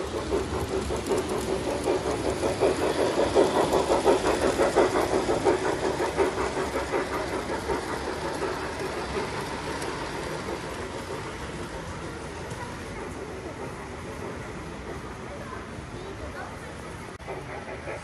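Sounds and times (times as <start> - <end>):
model train clattering: 0.0 - 18.0.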